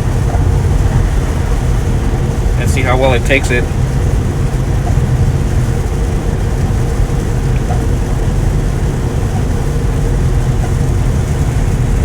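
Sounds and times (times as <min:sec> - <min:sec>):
rain on car: 0:00.0 - 0:12.0
tyres on wet road: 0:00.0 - 0:12.0.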